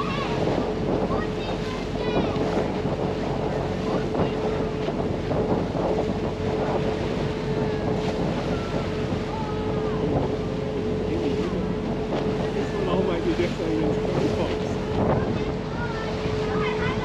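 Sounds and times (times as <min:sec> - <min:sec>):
boat engine droning: 0:00.0 - 0:17.0
water rushing past hull: 0:00.0 - 0:17.0
wind buffeting microphone: 0:00.0 - 0:17.0.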